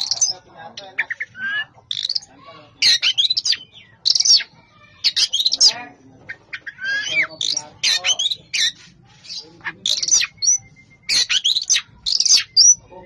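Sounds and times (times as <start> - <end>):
bird singing high phrases: 0.0 - 13.0.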